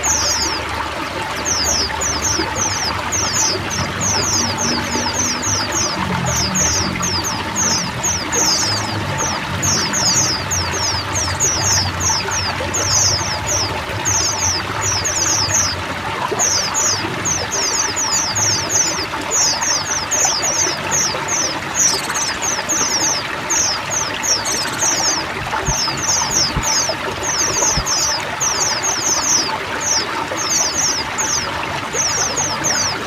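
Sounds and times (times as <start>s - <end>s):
birds chirping: 0.0s - 33.0s
trickling water: 0.0s - 33.0s.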